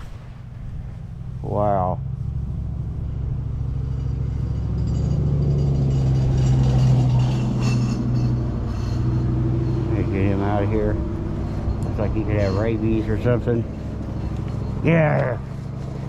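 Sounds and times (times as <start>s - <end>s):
faint higher whine: 0.0s - 16.0s
vehicle engine hum: 0.0s - 16.0s.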